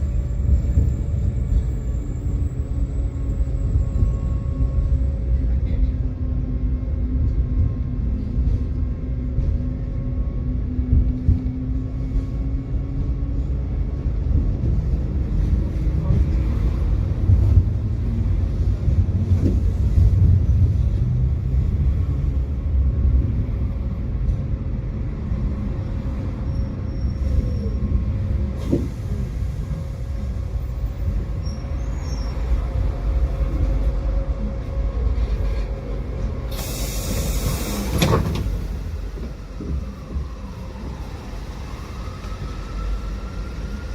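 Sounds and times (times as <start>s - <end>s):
tram rumbling on rails: 0.0s - 43.9s.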